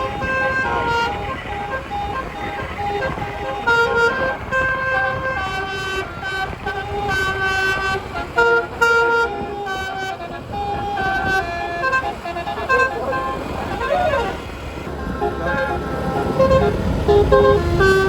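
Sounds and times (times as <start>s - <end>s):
bus horn playing a tune: 0.0s - 18.0s
low vehicle rumble: 0.0s - 18.0s.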